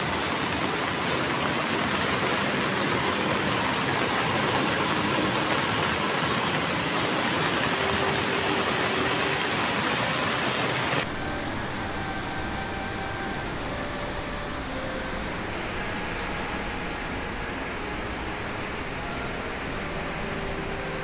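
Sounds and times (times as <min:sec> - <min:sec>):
flood water rushing: 0:00.0 - 0:21.0.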